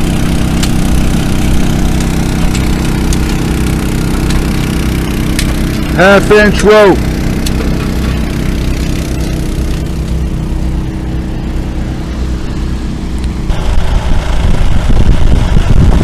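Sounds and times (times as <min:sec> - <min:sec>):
engine humming: 0:00.0 - 0:16.0
rough fluctuating engine rumble: 0:00.0 - 0:16.0.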